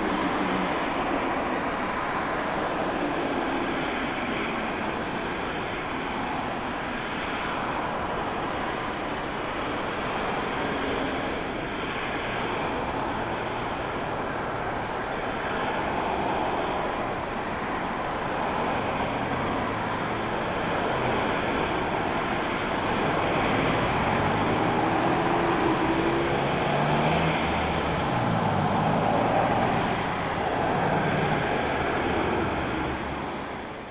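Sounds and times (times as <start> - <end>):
jet airliner engines: 0.0 - 33.9.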